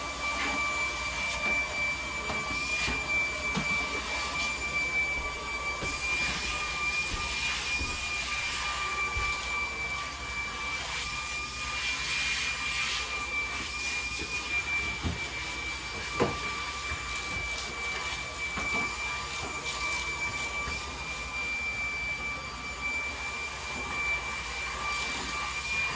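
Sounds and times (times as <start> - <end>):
vacuum cleaner whine and suction: 0.0 - 25.9.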